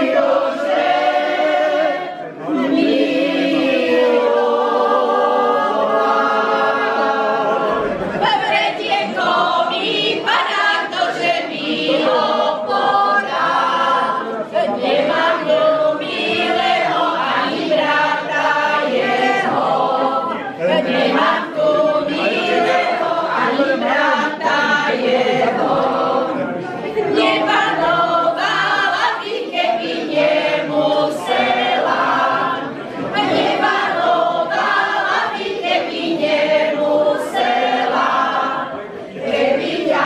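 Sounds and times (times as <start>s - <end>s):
group singing unaccompanied: 0.0s - 40.0s.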